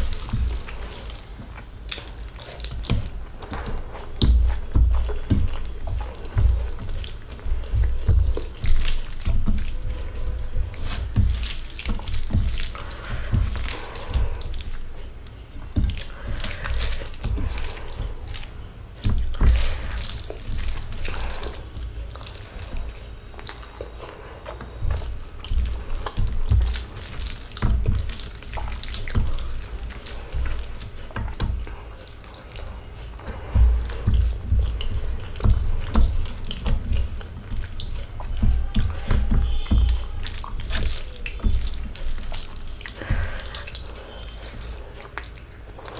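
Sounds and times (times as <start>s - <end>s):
chewing and lip smacks: 0.0s - 45.9s
wet squishing of food: 0.0s - 45.9s.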